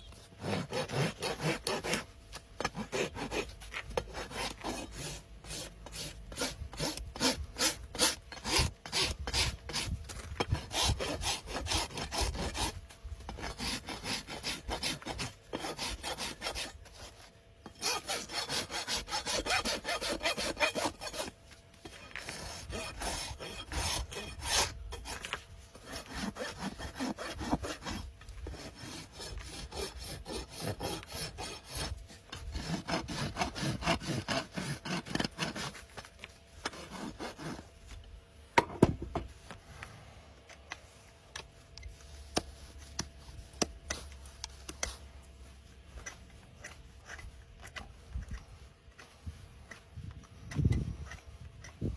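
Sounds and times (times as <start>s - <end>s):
rasp filing horse hoof: 0.0s - 39.6s, 40.5s - 51.9s.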